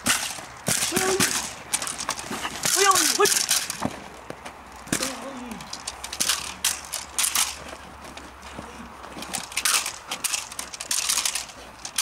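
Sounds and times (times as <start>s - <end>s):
paws and shoes scuffing on dirt: 0.0s - 12.0s.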